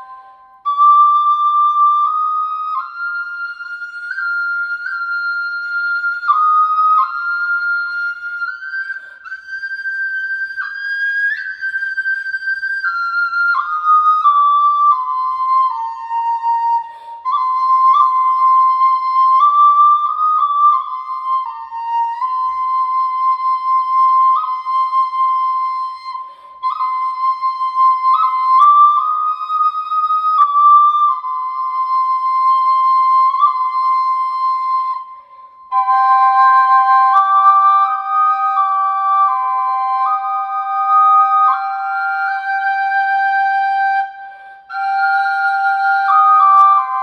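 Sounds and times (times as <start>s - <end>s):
double flute playing slow melody: 0.0s - 47.0s.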